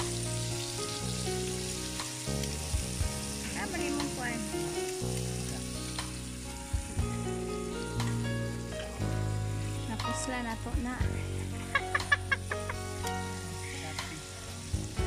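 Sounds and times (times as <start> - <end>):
pork sizzling in a skillet: 0.0 - 15.0.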